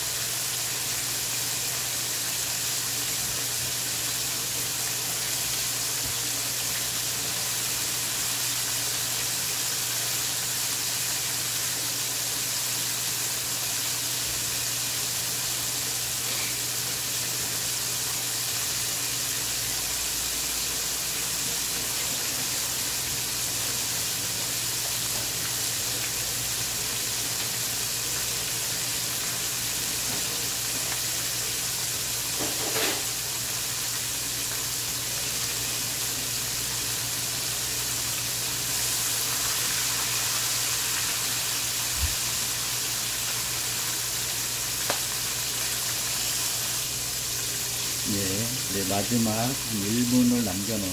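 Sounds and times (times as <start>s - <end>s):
oil sizzling while deep-frying: 0.0s - 50.9s.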